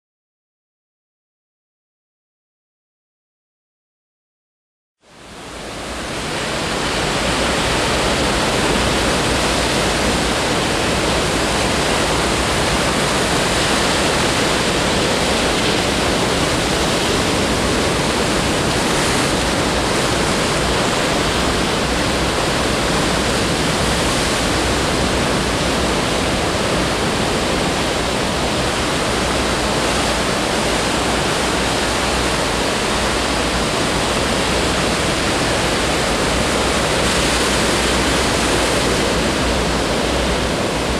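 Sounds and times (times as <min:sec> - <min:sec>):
ocean surf breaking: 0:05.2 - 0:40.9.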